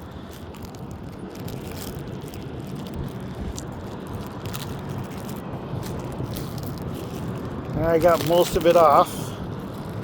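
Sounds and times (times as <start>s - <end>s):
plastic film crackling: 0.0s - 10.0s.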